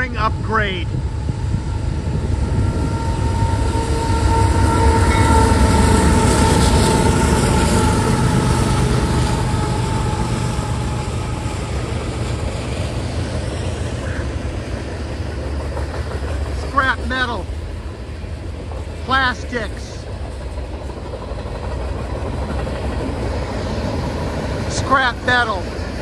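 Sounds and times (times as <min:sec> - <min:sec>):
locomotive engine rumble: 0:00.0 - 0:26.0.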